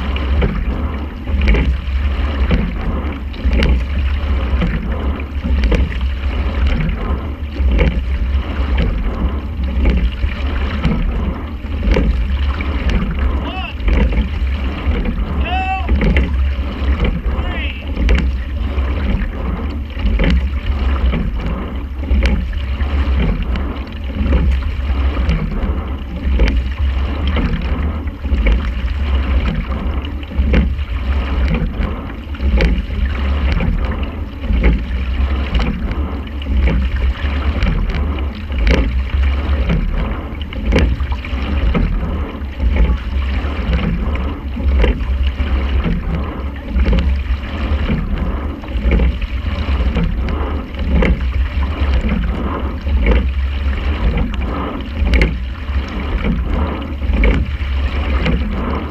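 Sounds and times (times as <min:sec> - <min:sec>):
oar blades catching water: 0:00.0 - 0:58.9
steady low rumble: 0:00.0 - 0:58.9
water rushing along hull: 0:00.0 - 0:58.9.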